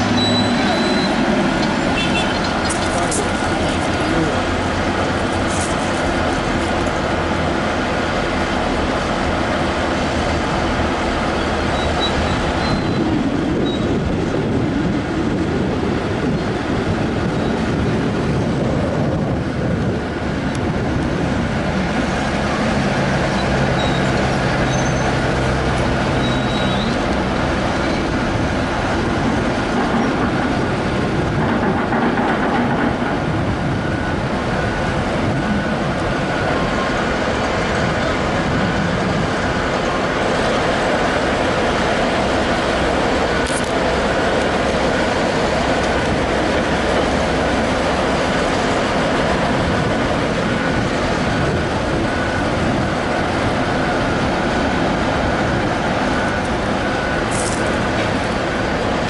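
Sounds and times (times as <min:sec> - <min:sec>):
heavy diesel equipment running: 0:00.0 - 0:59.0.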